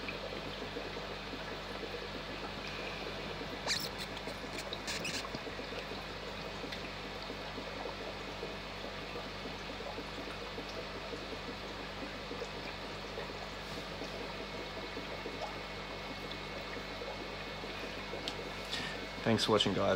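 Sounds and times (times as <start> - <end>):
aquarium water bubbling: 0.0 - 19.9.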